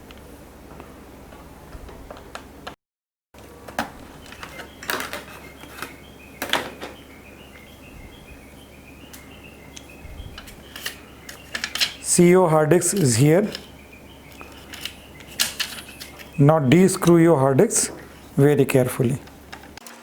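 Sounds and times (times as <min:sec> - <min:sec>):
low steady hum: 0:03.4 - 0:19.8.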